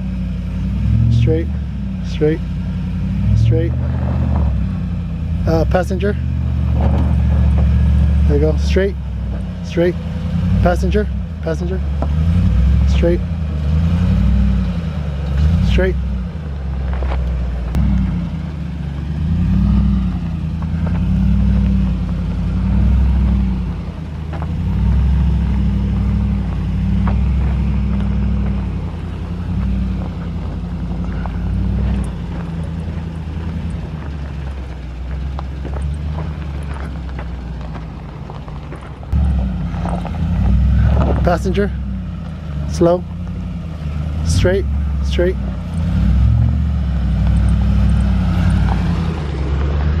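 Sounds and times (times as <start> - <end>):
truck engine at low revs: 0.0 - 50.0.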